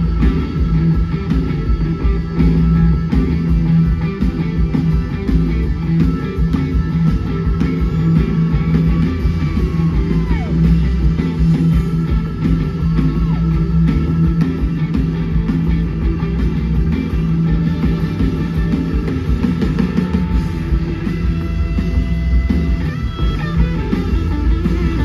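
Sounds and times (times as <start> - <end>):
electric guitar: 0.0 - 25.0
live blues-rock band playing: 0.0 - 25.0.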